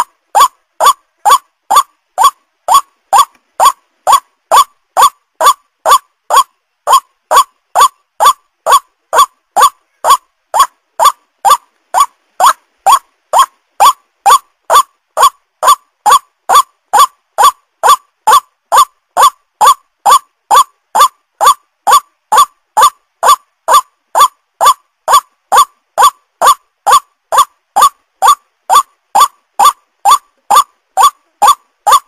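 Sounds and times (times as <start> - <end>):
waterhen nasal call: 0.0 - 32.0.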